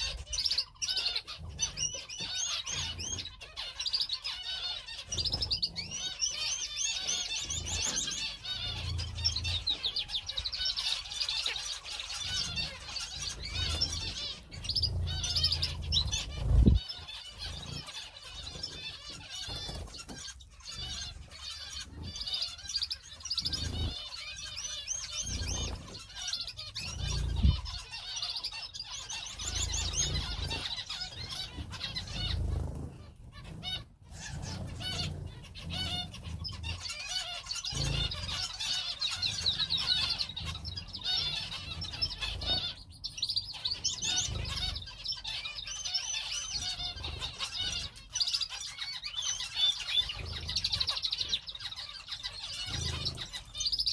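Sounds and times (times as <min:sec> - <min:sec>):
small birds chirping and trilling: 0:00.0 - 0:53.9.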